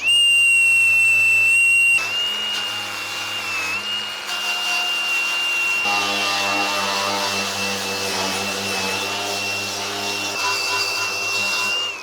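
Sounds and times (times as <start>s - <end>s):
angle grinder whining: 0.0s - 12.0s
grinding on steel: 2.1s - 12.0s.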